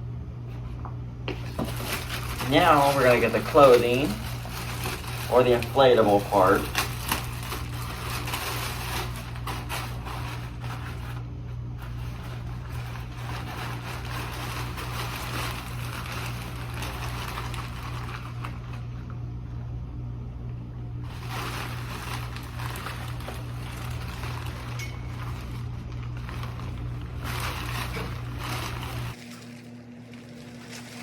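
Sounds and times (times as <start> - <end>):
steady low hum: 0.0 - 31.0
fabric and plastic rustling: 0.5 - 19.2, 21.0 - 31.0.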